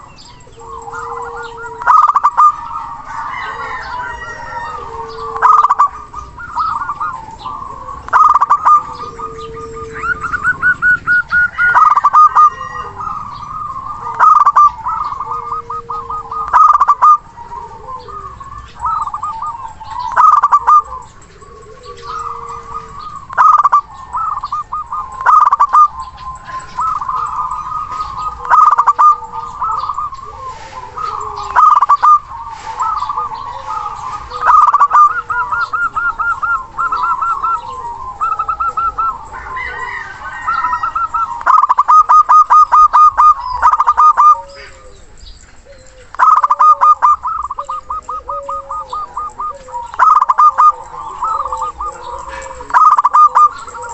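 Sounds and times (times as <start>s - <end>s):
dove low drawn-out coos: 0.0s - 53.9s
dove rapid staccato cooing: 0.0s - 53.9s.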